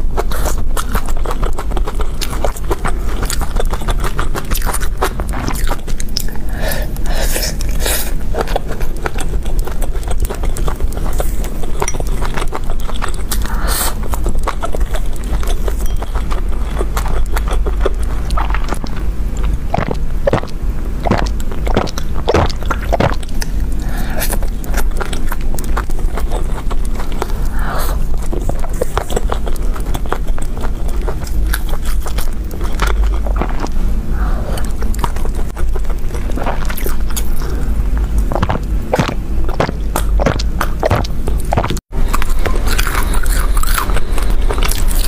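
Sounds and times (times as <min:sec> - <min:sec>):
close chewing and wet mouth smacks: 0:00.0 - 0:45.0
steady low hum: 0:00.0 - 0:45.0.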